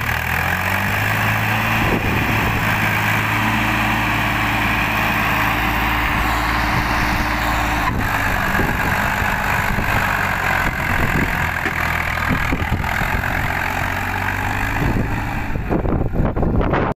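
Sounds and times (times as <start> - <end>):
tractor diesel engine under load: 0.0 - 16.9.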